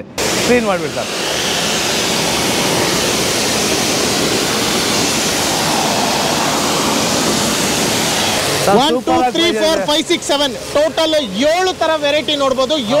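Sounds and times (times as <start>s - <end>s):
pressure washer water jet spraying: 0.2s - 13.0s.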